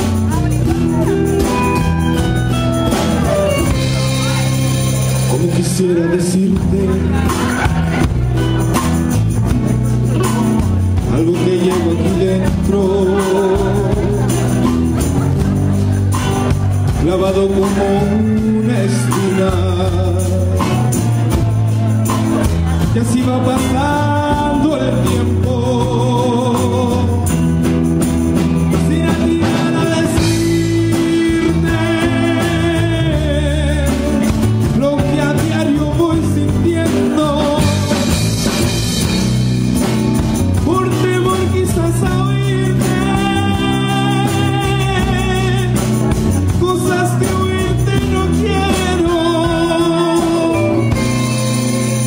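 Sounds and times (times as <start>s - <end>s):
bass guitar: 0.0s - 52.0s
congas: 0.0s - 52.0s
drum kit: 0.0s - 52.0s
electric guitar melody: 0.0s - 52.0s.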